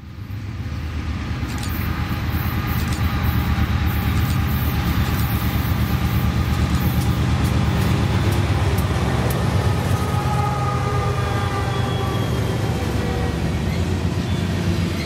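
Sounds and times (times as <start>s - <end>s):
diesel locomotive engine drone: 0.0s - 15.0s
train wheels clicking on rails: 0.6s - 15.0s.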